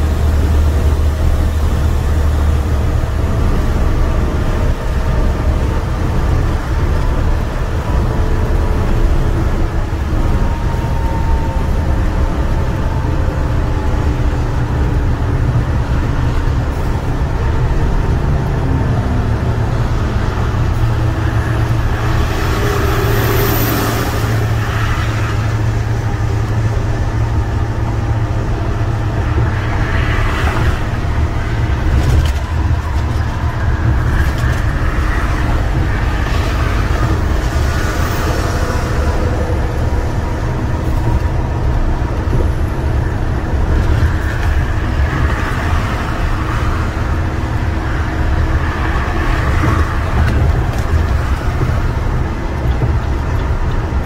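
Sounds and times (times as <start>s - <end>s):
diesel engine drone: 0.0s - 54.0s
road and tyre noise: 0.0s - 54.0s.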